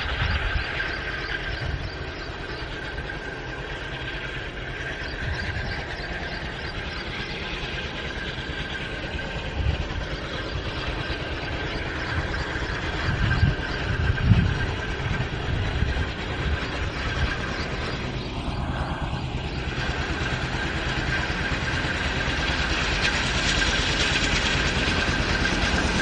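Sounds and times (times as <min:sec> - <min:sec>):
diesel locomotive engine rumbling: 0:00.0 - 0:26.0
high whine: 0:00.0 - 0:26.0.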